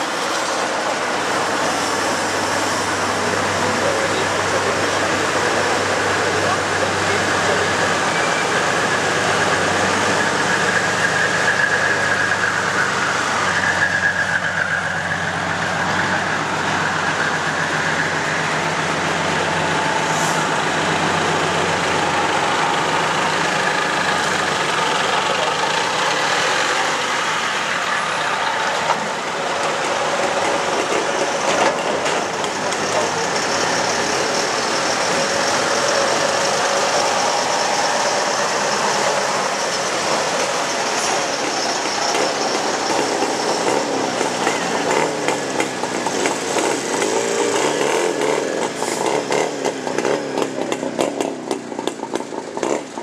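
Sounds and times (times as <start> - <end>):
diesel trucks driving past: 0.0 - 53.0.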